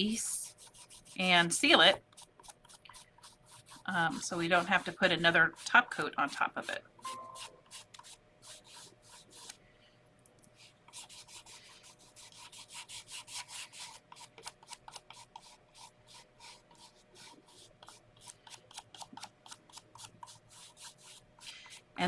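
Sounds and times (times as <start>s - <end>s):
bristle brush scrubbing: 0.0s - 9.6s, 10.5s - 18.6s, 19.4s - 22.0s.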